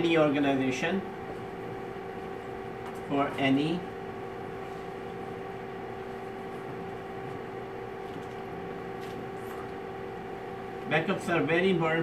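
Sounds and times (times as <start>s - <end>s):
steady mechanical room hum: 0.0s - 12.0s.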